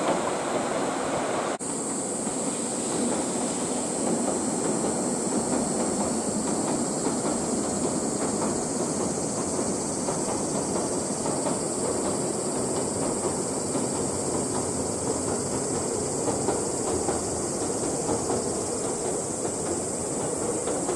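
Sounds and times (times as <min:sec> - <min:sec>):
constant high hiss: 0:00.0 - 0:20.9
train crossing steel bridge: 0:00.0 - 0:20.9.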